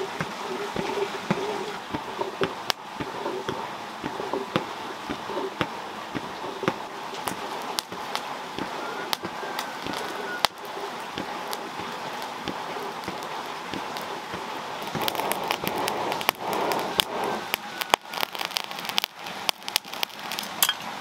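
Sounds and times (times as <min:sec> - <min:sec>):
charcoal crackling and popping: 0:00.0 - 0:21.0
fire hiss: 0:00.0 - 0:21.0.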